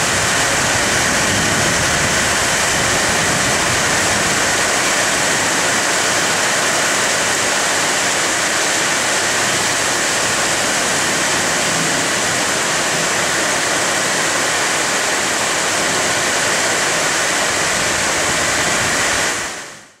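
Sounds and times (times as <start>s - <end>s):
heavy rain on foliage: 0.0s - 20.0s.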